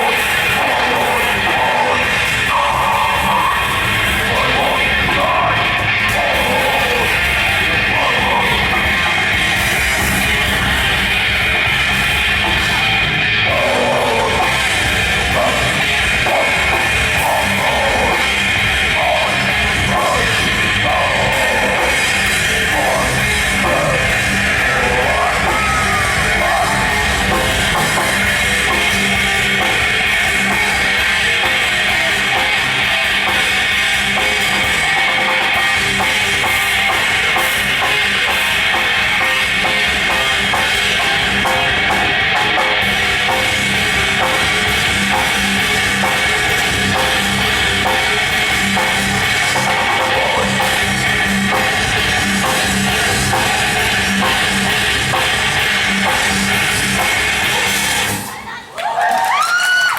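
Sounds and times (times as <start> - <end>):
heavy rock music: 0.0 - 58.5
driving drum kit: 0.0 - 59.9.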